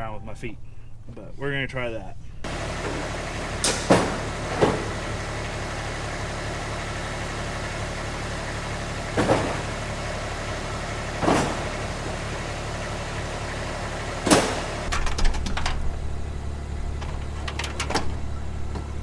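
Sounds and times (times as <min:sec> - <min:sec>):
vehicle engine running: 0:02.0 - 0:19.0.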